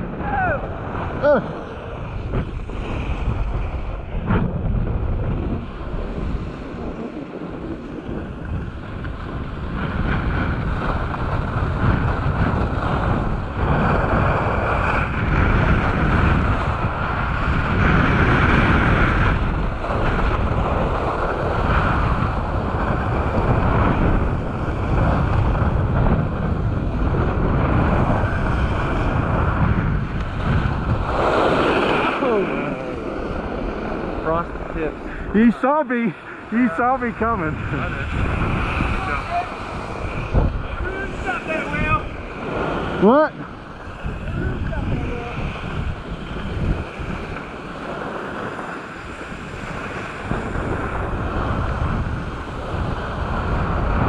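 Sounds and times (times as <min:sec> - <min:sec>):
wind rushing over microphone: 0:00.0 - 0:54.0
skis scraping over snow: 0:00.8 - 0:54.0.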